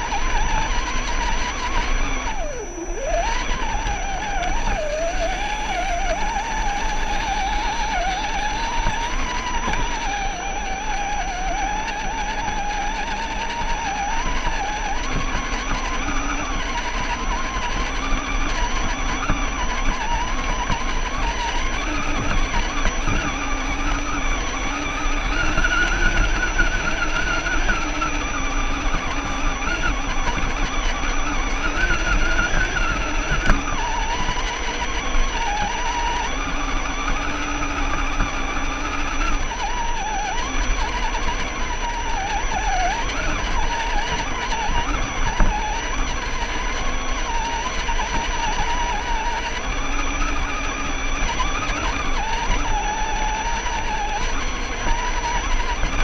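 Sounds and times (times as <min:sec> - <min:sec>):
electric motor and gears whining: 0:00.0 - 0:56.0.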